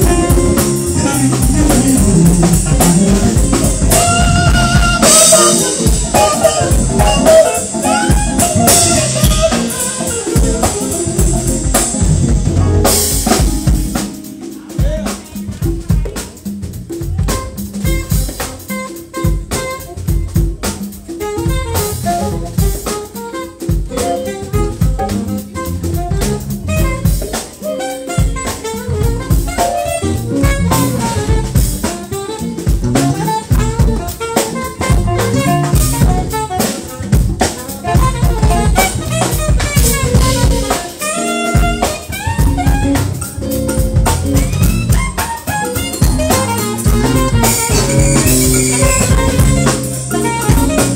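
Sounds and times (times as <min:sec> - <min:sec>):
jazz band playing: 0:00.0 - 0:50.9
saxophone melody: 0:00.0 - 0:50.9.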